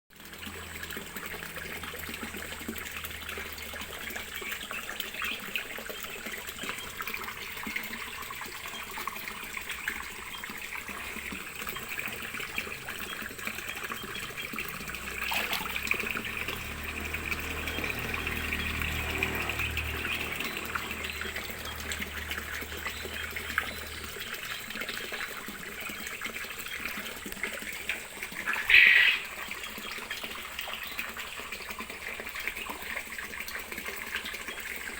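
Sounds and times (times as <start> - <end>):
water running and trickling: 0.1 - 34.9.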